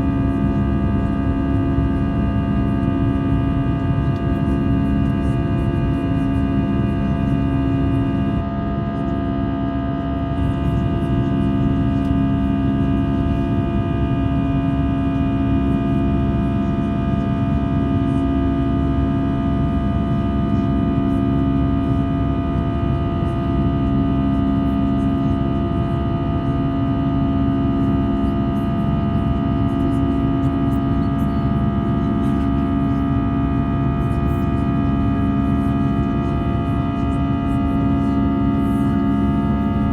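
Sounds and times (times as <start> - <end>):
jet engine and airflow roar: 0.0 - 39.9.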